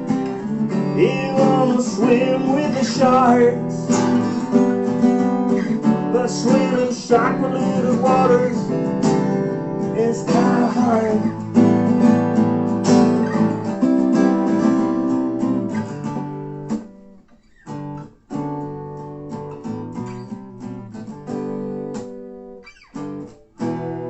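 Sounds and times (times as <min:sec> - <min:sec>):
acoustic guitars playing: 0:00.0 - 0:24.0.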